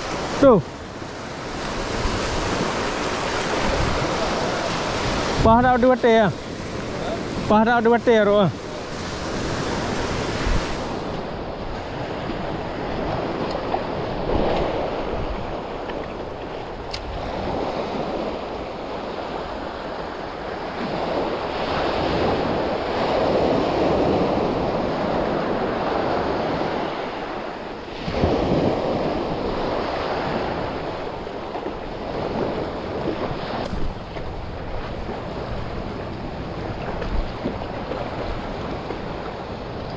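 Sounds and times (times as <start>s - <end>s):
sea waves washing onto shore: 0.0s - 39.9s
wind noise on microphone: 1.4s - 5.7s, 8.9s - 19.4s, 20.6s - 39.9s.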